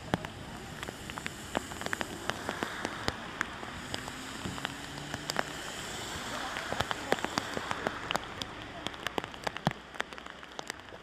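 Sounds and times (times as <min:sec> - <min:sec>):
rain falling: 0:00.0 - 0:11.0
raindrops tapping sharply: 0:00.0 - 0:11.0.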